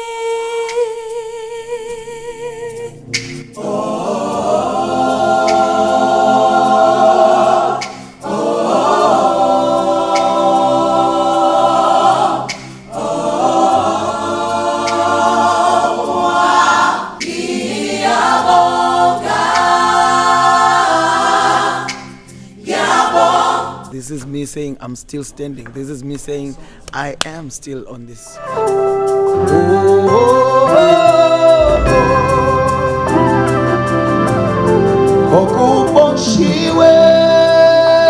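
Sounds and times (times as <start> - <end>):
voices singing gospel in harmony: 0.0 - 38.0.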